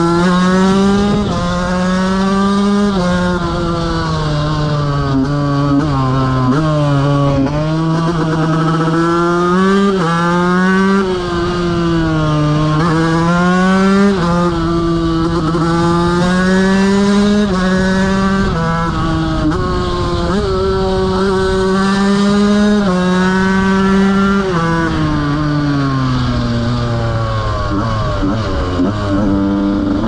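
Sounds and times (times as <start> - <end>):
motorcycle engine shifting gears: 0.0 - 30.0.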